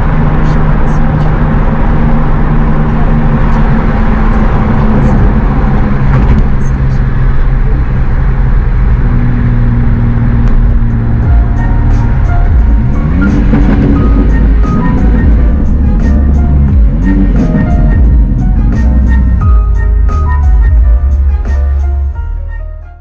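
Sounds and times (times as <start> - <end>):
low engine drone: 0.0 - 23.0
road noise: 0.0 - 23.0.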